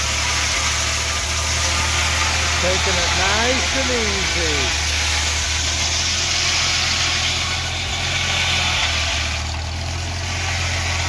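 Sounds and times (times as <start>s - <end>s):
circular saw cutting log: 0.0s - 11.0s
tractor engine running: 0.0s - 11.0s.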